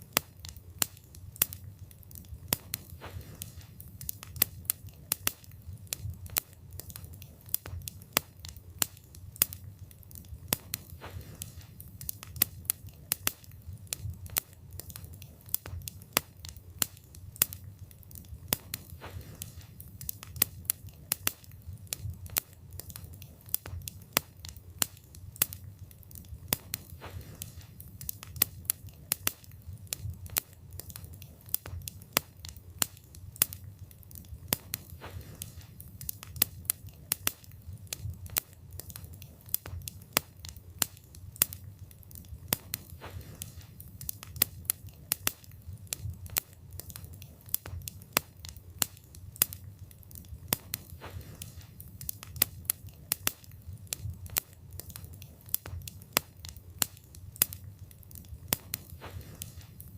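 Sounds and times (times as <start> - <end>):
wood crackling and popping: 0.0 - 59.9
wood fire burning: 0.0 - 59.9.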